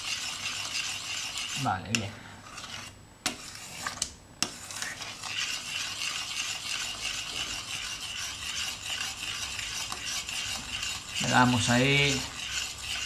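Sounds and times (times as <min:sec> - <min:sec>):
utensil scraping a metal pot: 0:00.0 - 0:13.0.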